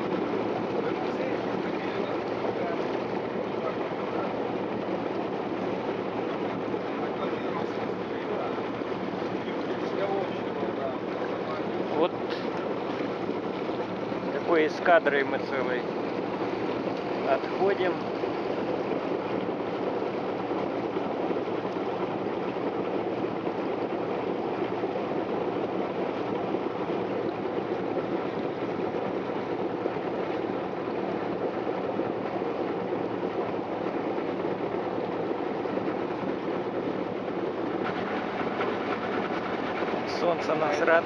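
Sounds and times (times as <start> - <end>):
boat engine running: 0.0 - 41.0
water rushing from wake: 0.0 - 41.0.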